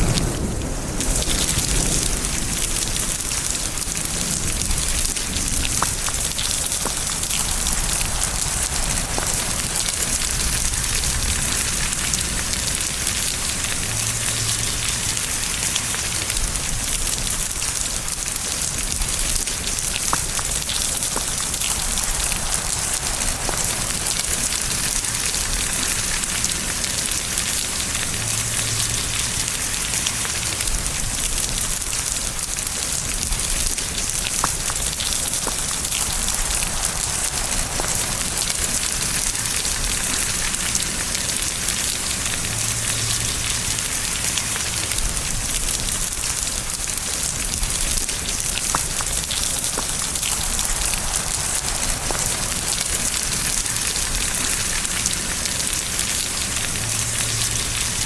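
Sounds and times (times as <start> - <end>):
faint low rumble: 0.0 - 58.0
rain hiss: 0.0 - 58.0
raindrops ticking: 0.0 - 58.0.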